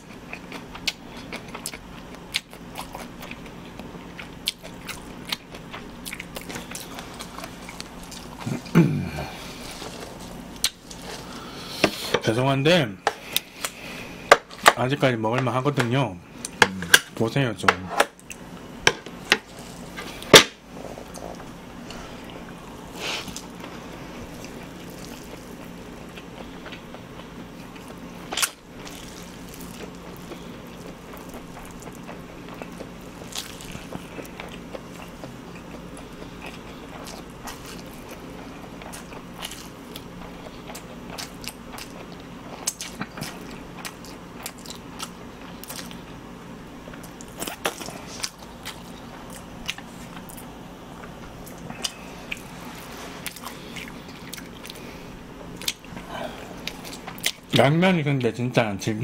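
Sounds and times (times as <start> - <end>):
chewing noodles: 0.0 - 12.2, 20.9 - 46.2, 46.8 - 57.5.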